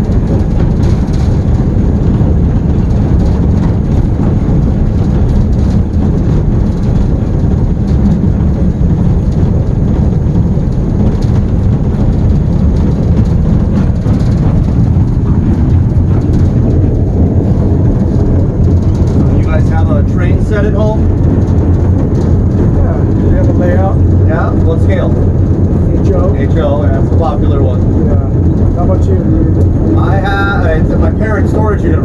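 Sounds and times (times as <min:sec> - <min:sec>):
diesel locomotive engine rumble: 0:00.0 - 0:32.0.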